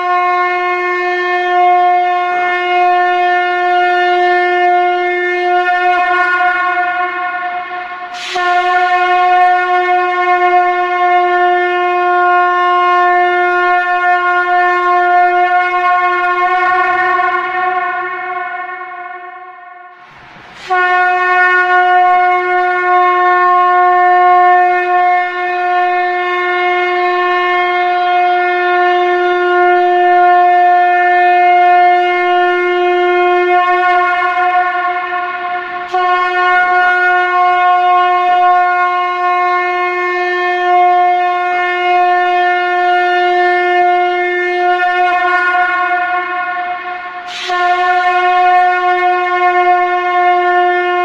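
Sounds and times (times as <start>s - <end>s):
conch shell blasts: 0.0s - 51.0s.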